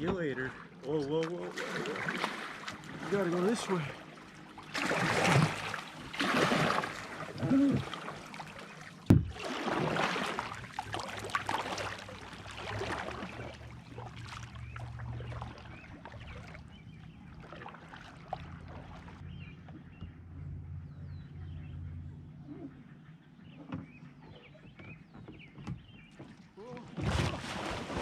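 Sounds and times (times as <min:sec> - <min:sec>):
water splashing around a kayak: 0:00.0 - 0:19.8, 0:23.6 - 0:28.0
water lapping: 0:00.0 - 0:28.0.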